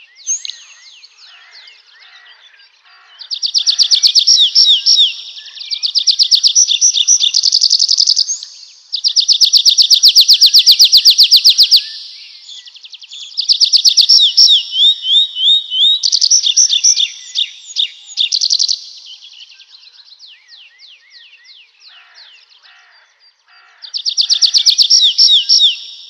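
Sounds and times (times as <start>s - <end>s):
songbirds trilling: 0.0s - 26.0s.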